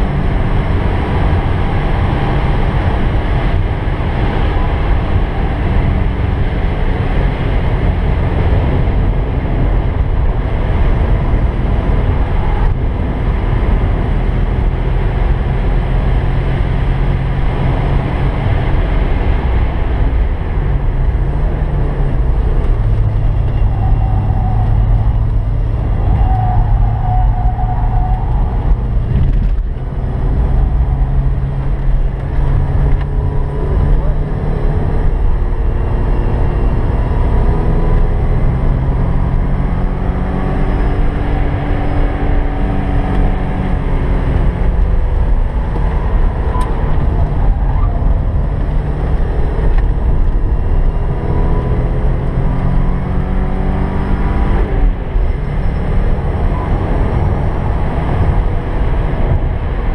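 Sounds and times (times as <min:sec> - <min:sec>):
car engine running hard: 0:00.0 - 0:59.9
road and wind noise: 0:00.0 - 0:59.9.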